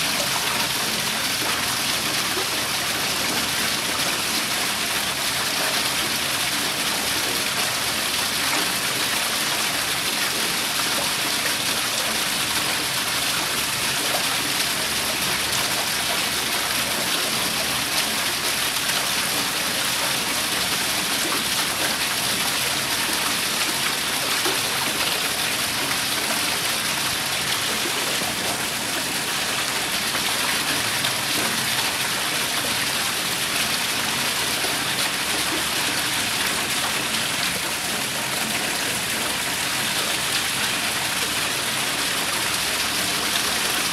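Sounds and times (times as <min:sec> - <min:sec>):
water pouring into a pool: 0:00.0 - 0:43.9.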